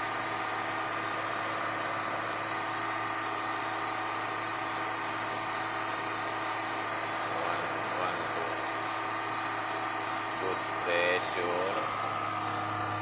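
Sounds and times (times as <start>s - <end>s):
diesel engine humming steadily: 0.0s - 13.0s.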